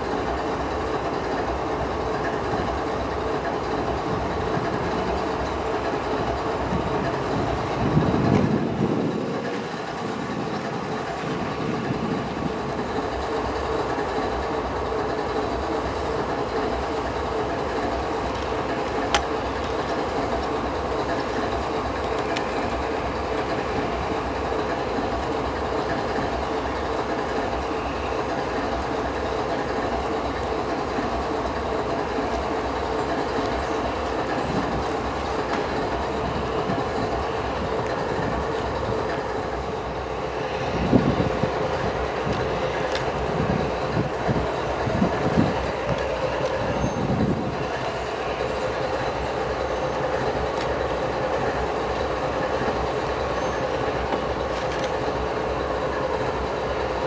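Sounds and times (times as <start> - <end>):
train wheels clicking on rails: 0.0 - 57.0.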